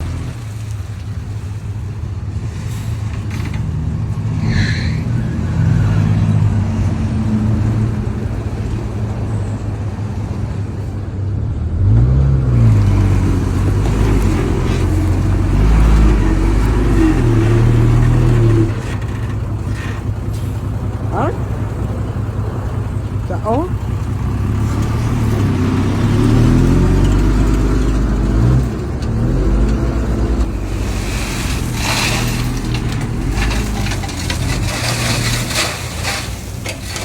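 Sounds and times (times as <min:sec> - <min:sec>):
heavy truck engine revving: 0:00.0 - 0:37.0.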